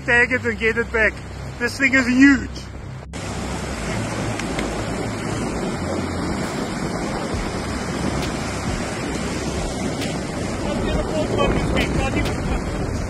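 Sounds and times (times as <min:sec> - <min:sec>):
surf washing ashore: 0:00.0 - 0:13.0
wind buffeting microphone: 0:02.5 - 0:13.0.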